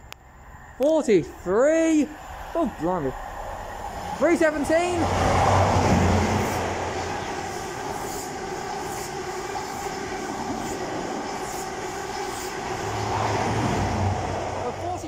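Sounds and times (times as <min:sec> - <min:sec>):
train engine hum: 0:00.0 - 0:15.0
wheels rushing on rail: 0:00.0 - 0:15.0.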